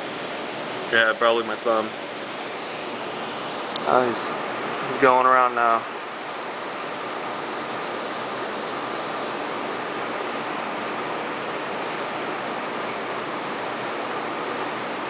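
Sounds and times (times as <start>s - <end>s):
aquarium water circulation hiss: 0.0s - 15.0s.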